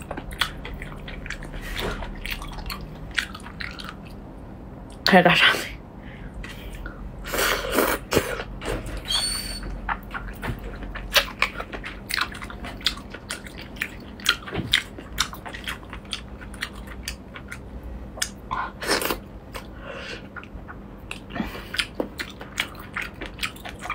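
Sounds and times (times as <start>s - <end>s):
wet biting and chewing: 0.0s - 4.2s, 7.7s - 23.9s.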